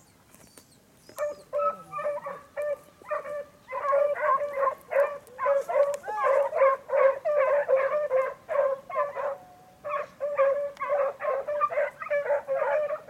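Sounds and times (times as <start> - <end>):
hunting dogs yelping: 0.5 - 13.0.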